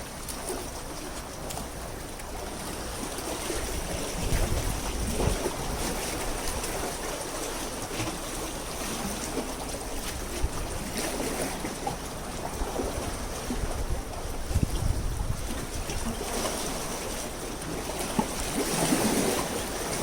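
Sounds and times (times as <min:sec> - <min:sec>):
seawater lapping and sloshing: 0:00.0 - 0:20.0.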